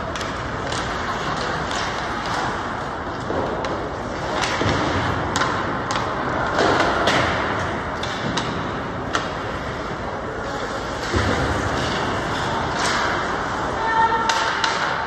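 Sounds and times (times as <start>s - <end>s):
hockey sticks and puck clacking: 0.0s - 15.0s
rink background noise: 0.0s - 15.0s.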